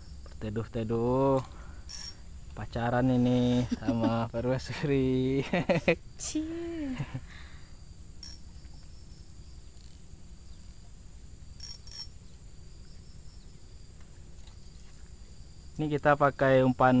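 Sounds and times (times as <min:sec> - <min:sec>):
insects chirring: 0:00.0 - 0:17.0
low steady rumble: 0:00.0 - 0:17.0.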